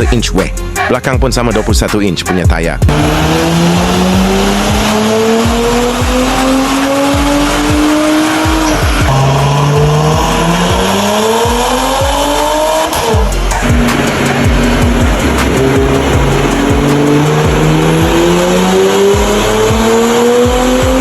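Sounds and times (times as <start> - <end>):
background music with steady beat: 0.0 - 21.0
car engine accelerating hard: 2.9 - 21.0.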